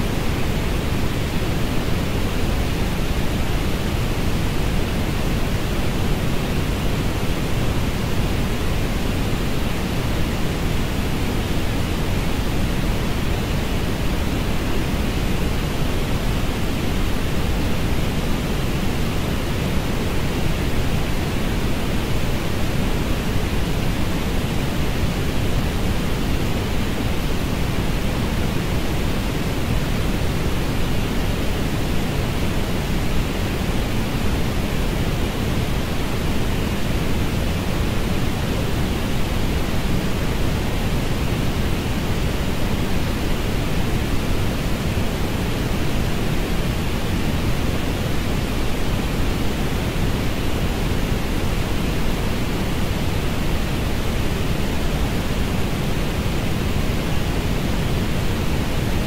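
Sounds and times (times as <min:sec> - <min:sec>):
steady orange noise hiss: 0:00.0 - 0:59.0.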